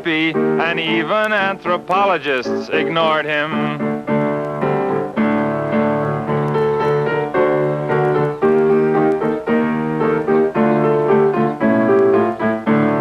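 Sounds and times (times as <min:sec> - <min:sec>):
solo piano chords: 0:00.0 - 0:13.0.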